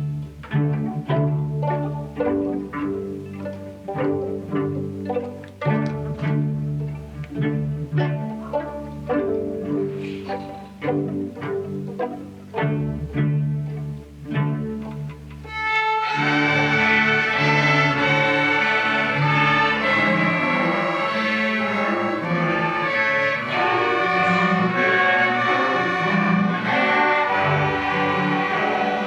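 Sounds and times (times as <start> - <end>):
string orchestra playing: 0.0 - 29.0.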